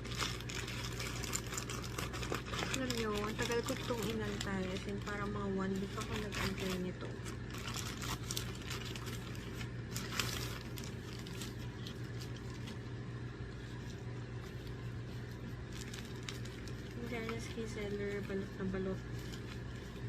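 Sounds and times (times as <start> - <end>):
plastic wrapping crackling and tearing: 0.0 - 20.0
steady low hum: 0.0 - 20.0.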